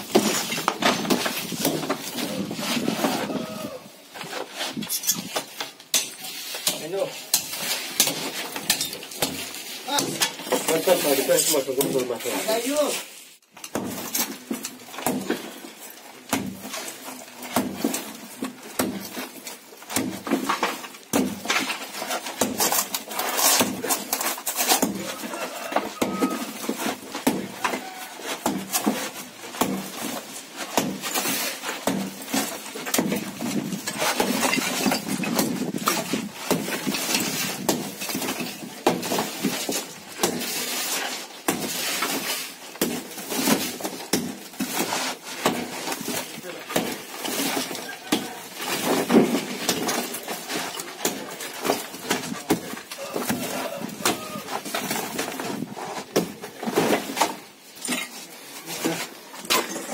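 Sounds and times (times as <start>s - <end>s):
sledgehammer striking brick wall: 0.0s - 3.7s, 5.2s - 10.9s, 13.6s - 15.6s, 16.2s - 25.2s, 25.9s - 40.7s, 41.4s - 57.3s
brick and plaster falling: 0.0s - 12.0s, 13.7s - 59.9s.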